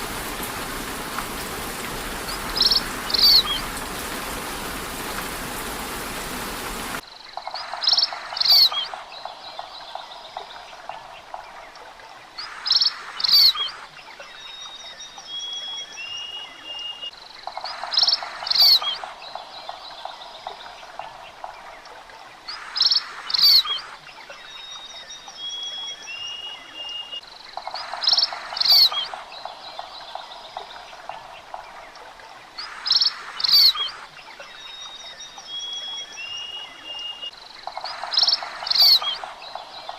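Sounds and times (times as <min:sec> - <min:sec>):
rain hiss: 0:00.0 - 0:39.9
sharp bird calls: 0:00.0 - 0:39.9.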